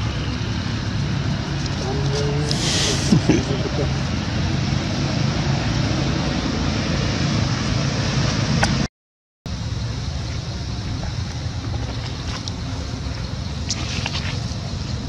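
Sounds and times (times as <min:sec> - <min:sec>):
rushing background noise: 0:00.0 - 0:08.9, 0:09.5 - 0:15.0.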